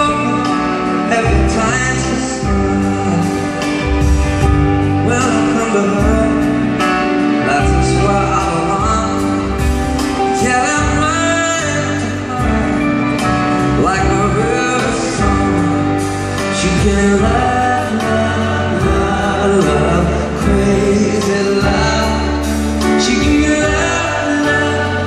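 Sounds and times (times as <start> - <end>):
live band playing pop ballad: 0.0 - 25.0
man singing: 0.0 - 25.0.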